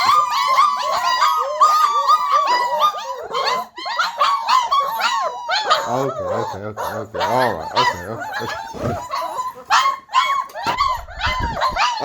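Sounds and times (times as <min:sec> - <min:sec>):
puppies whining and squealing: 0:00.0 - 0:12.0.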